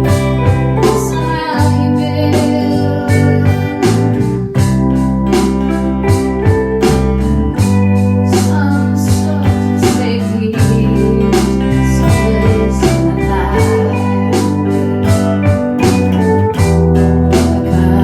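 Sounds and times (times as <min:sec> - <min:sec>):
bass notes: 0:00.0 - 0:18.0
guitar: 0:00.0 - 0:18.0
steady drum beat: 0:00.0 - 0:18.0.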